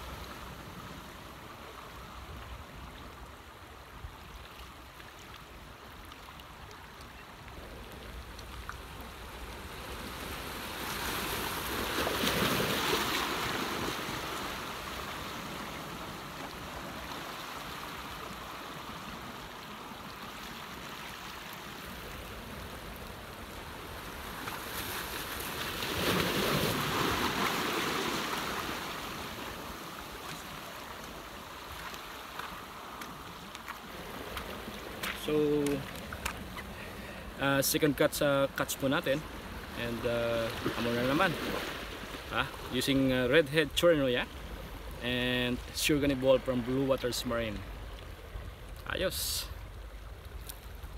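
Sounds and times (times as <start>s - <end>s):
sea waves washing in: 0.0s - 50.9s.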